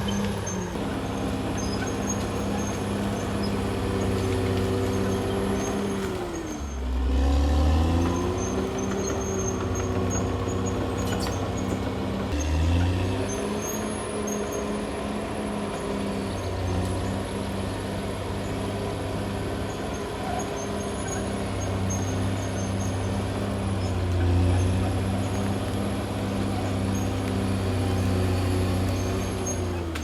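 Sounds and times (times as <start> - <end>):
bulldozer diesel engine under load: 0.0 - 30.0.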